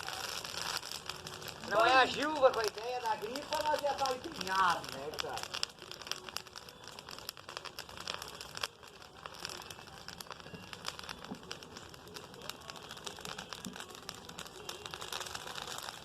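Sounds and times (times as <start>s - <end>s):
bonfire crackling: 0.0s - 16.0s.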